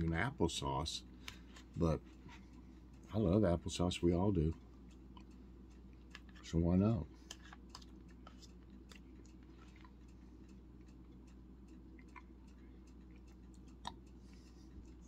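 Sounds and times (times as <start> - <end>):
low steady hum: 0.0 - 15.0
quiet chewing: 1.2 - 3.1, 4.1 - 15.0.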